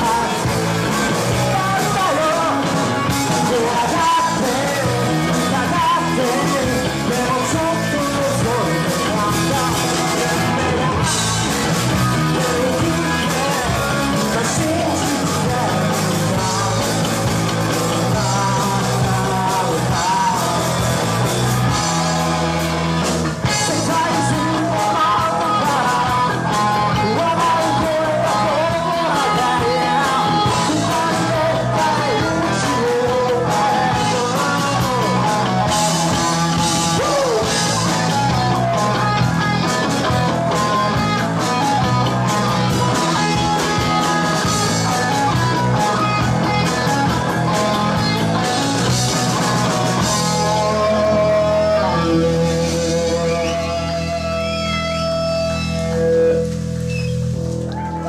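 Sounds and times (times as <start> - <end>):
man singing: 0.0 - 22.4, 23.4 - 55.1
bass guitar: 0.0 - 58.0
drums: 0.0 - 58.0
electric guitars: 0.0 - 58.0.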